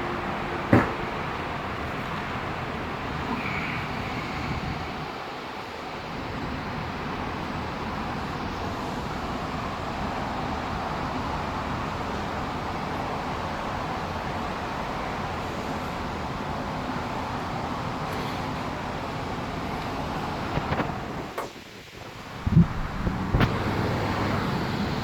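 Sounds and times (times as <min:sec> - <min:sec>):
train rushing noise: 0:00.0 - 0:25.0.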